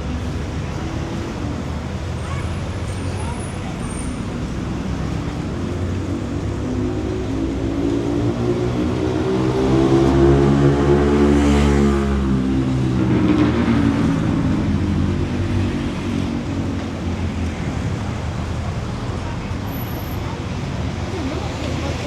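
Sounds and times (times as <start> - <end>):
street traffic noise: 0.0 - 22.0
vehicle engine passing by: 2.2 - 22.0.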